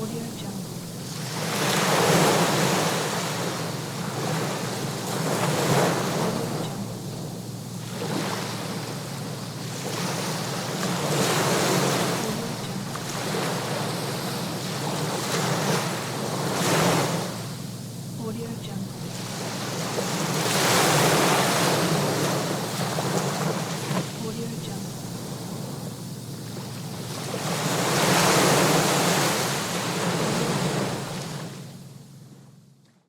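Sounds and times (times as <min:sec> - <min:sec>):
sea waves washing onto shore: 0:00.0 - 0:18.1, 0:18.8 - 0:31.8.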